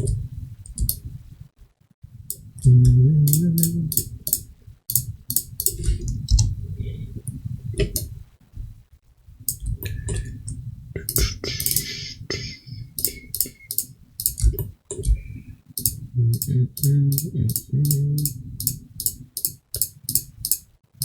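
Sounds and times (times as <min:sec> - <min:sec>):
computer mouse clicking: 0:00.0 - 0:01.1, 0:02.2 - 0:06.5, 0:07.8 - 0:08.2, 0:09.5 - 0:20.7.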